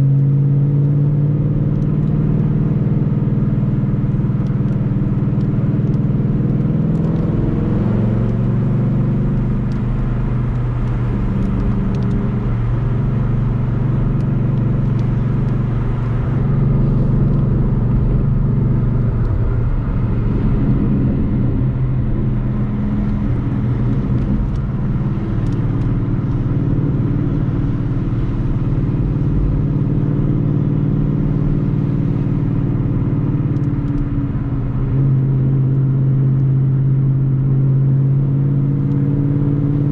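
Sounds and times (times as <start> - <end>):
car engine cruising: 0.0 - 39.9
road noise: 0.0 - 39.9.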